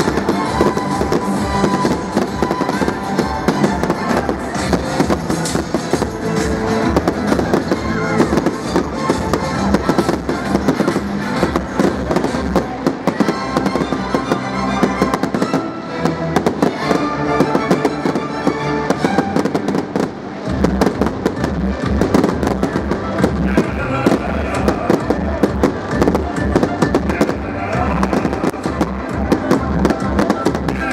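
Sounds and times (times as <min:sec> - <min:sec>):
fireworks crackling and popping: 0:00.0 - 0:30.9
music playing: 0:00.0 - 0:30.9.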